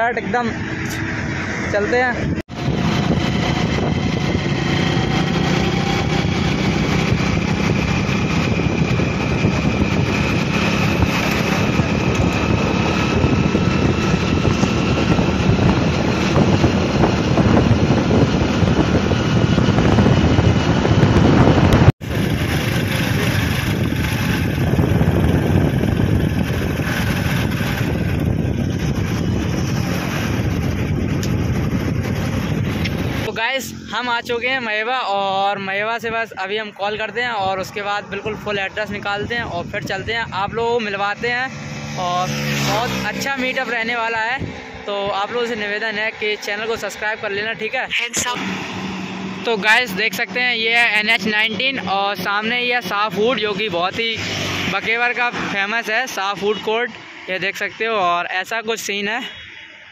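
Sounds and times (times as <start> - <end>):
road and wind noise: 0.0 - 59.9
steady rushing noise: 0.0 - 59.9
vehicle engine: 0.0 - 59.9.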